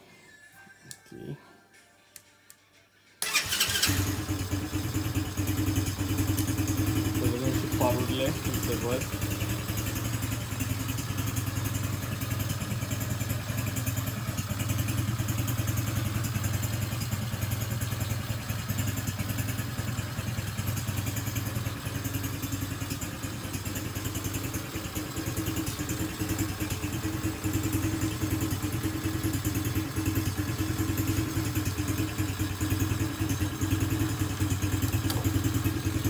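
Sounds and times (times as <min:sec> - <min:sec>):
engine idling: 0:03.2 - 0:36.0.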